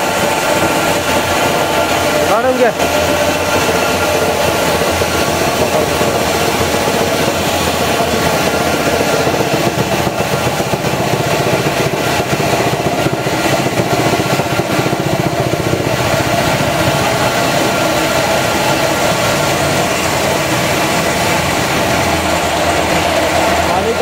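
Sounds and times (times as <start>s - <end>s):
washing machine hum: 0.0s - 24.0s.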